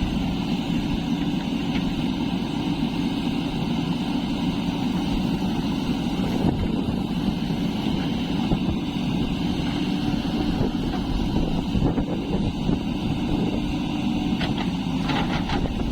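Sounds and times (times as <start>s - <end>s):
heavy diesel engine running: 0.0s - 15.9s.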